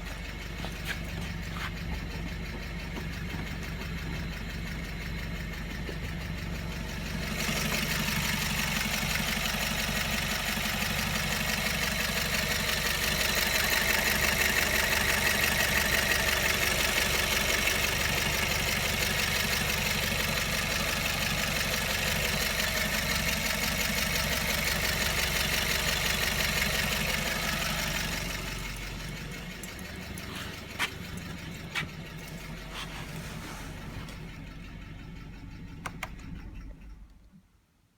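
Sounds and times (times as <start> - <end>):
car engine idling with metallic rattle: 0.0 - 37.6.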